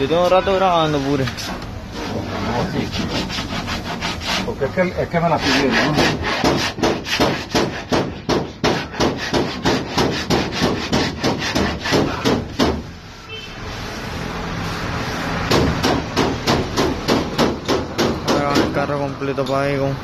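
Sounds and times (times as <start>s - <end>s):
sandpaper rasping on filler: 0.0s - 18.7s.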